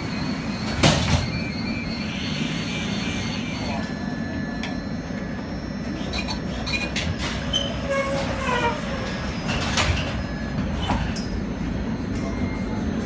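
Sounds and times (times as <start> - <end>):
tram humming: 0.0 - 13.0.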